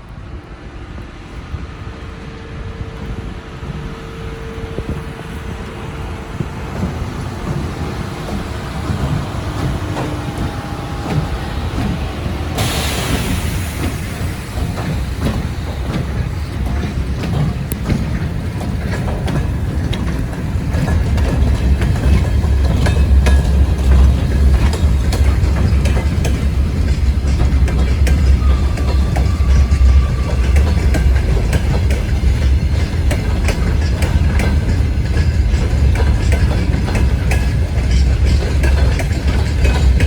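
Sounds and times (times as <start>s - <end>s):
freight train rolling past: 0.0s - 40.0s
wheels clicking over rail joints: 4.8s - 40.0s.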